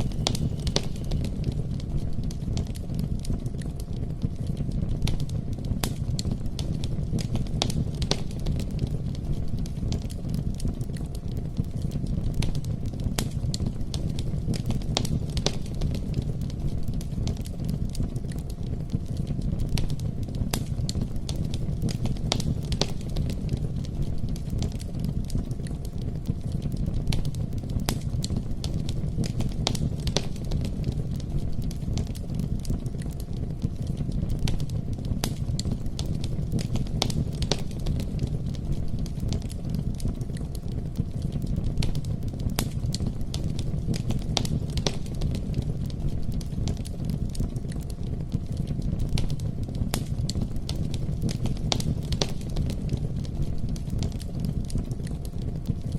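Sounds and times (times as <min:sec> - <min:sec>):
campfire crackling: 0:00.0 - 0:55.9
fire popping and snapping: 0:00.0 - 0:55.9.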